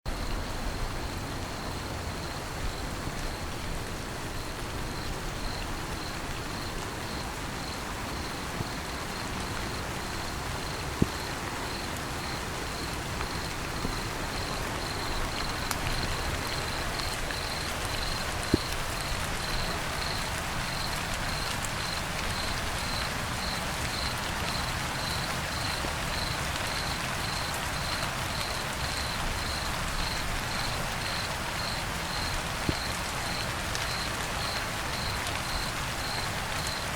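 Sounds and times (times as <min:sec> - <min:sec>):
cricket chirping: 0:00.2 - 0:03.4, 0:04.3 - 0:36.8.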